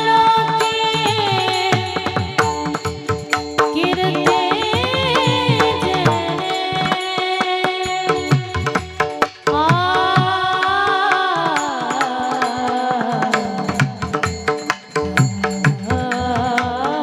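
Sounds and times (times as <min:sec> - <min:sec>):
devotional melody with drums: 0:00.0 - 0:17.0
person singing: 0:00.0 - 0:17.0.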